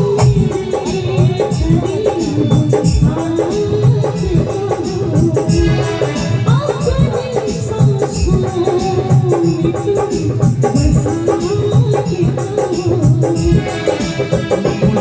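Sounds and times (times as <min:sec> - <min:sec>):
steady percussion rhythm: 0:00.0 - 0:15.0.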